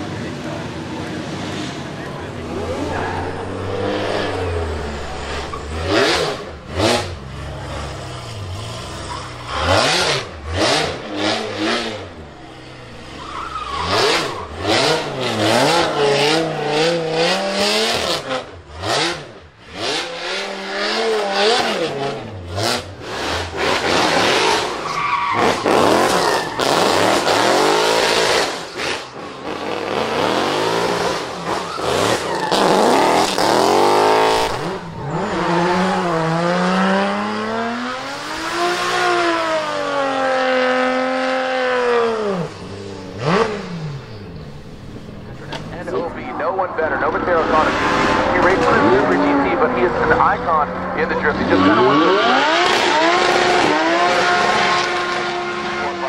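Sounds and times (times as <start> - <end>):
car engines revving hard: 0.0 - 56.0
tyres squealing and skidding: 1.6 - 40.6, 41.6 - 56.0.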